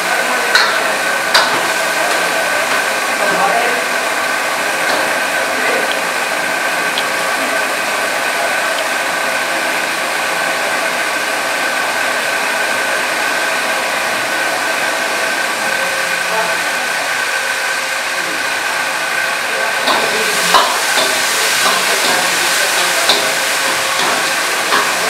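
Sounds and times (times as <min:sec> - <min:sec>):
gas burner rushing: 0:00.0 - 0:25.0.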